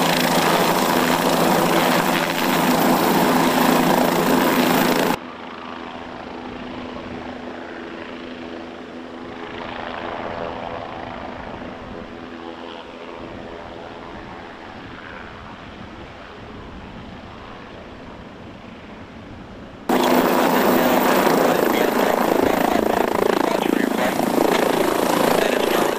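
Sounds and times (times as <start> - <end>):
helicopter rotor and turbine whine: 0.0 - 25.9.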